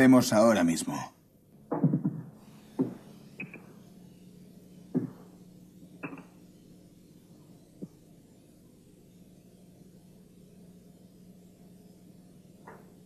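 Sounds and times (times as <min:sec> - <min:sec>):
low hum of film soundtrack: 0:00.0 - 0:13.0.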